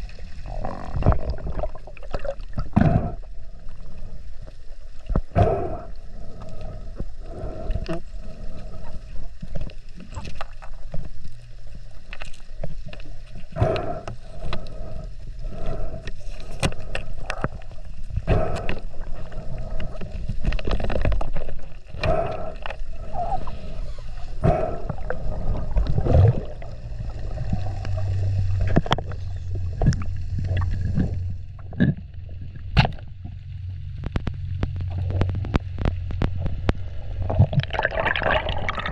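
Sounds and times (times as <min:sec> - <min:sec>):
low steady hum: 0:00.0 - 0:38.9
muffled water rushing: 0:00.0 - 0:38.9.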